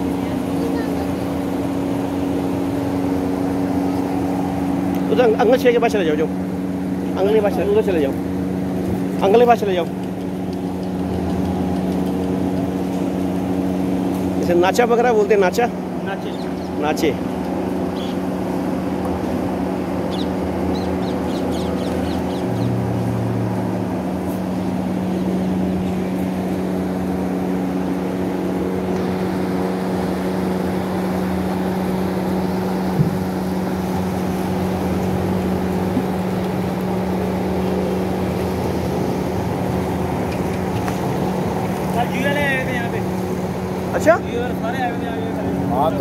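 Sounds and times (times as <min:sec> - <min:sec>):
machine humming: 0:00.0 - 0:46.0.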